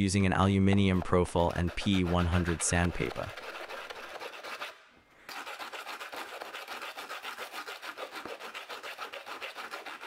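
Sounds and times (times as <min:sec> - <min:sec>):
sandpaper rasping on plastic: 0:00.0 - 0:10.0.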